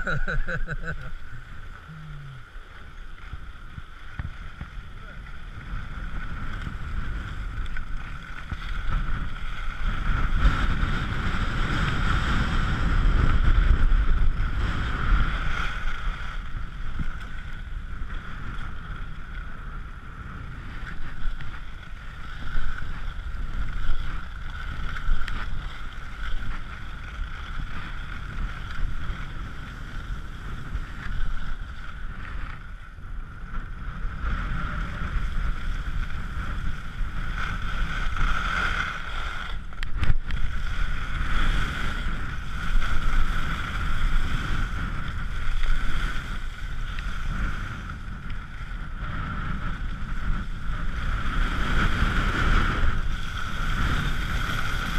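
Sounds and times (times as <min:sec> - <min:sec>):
skis sliding over snow: 0:00.0 - 0:54.9
wind rushing over microphone: 0:00.0 - 0:54.9.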